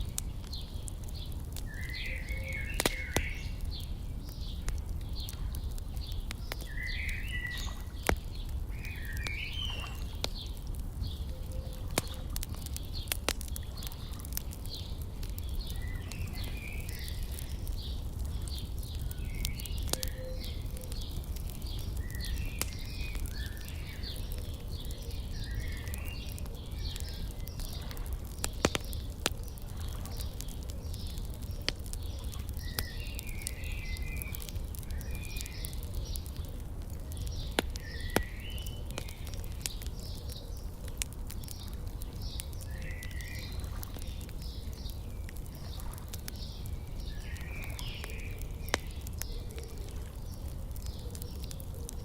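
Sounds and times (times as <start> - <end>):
small birds chirping: 0.0 - 52.0
wood fire crackling and popping: 0.0 - 52.0.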